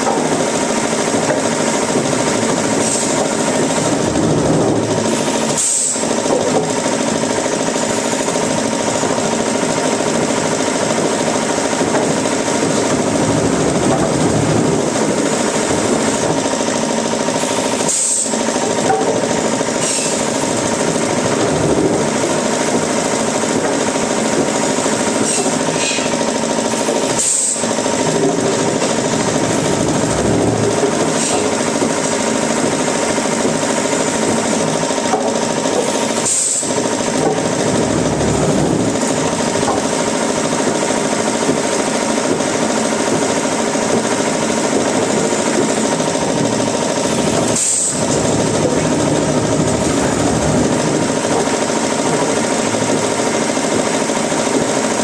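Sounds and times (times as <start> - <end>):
woodworking machinery running: 0.0 - 55.0.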